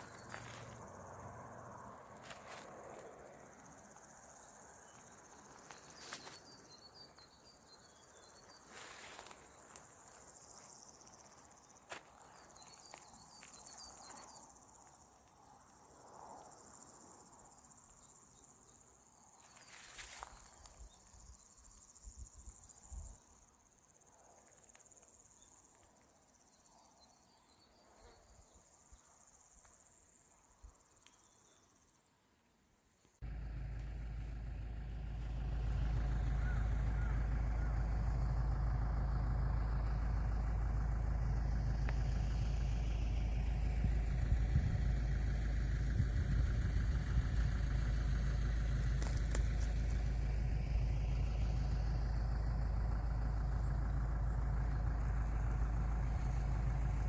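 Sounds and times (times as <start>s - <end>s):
high-pitched insect chorus: 0.0s - 32.1s, 33.0s - 57.0s.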